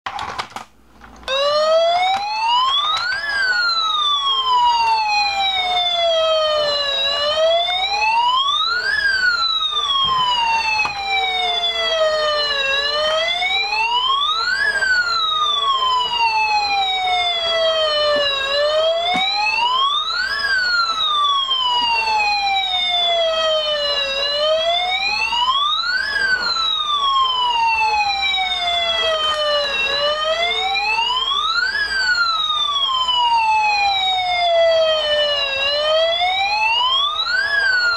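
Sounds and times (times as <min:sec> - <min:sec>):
toy electronic siren wailing: 0:01.3 - 0:37.9.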